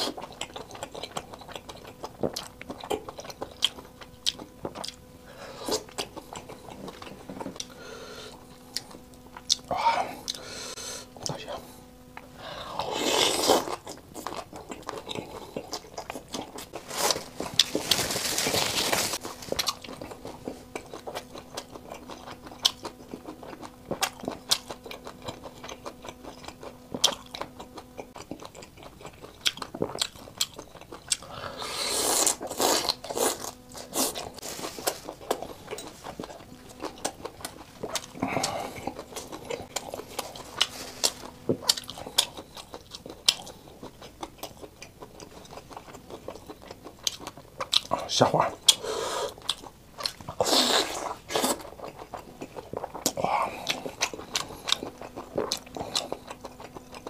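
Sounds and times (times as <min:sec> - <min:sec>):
wet chewing and biting: 0:00.0 - 0:07.7, 0:12.9 - 0:57.0.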